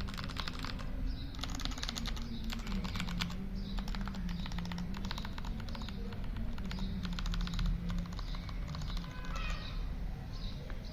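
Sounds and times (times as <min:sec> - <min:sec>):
mechanical keyboard typing: 0:00.0 - 0:09.6.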